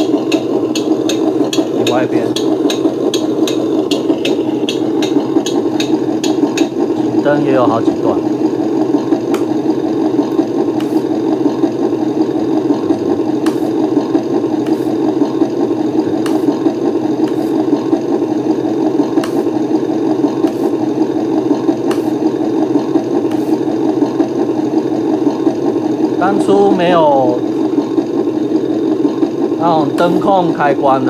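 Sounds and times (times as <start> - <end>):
simulated engine idle from speaker: 0.0 - 31.0.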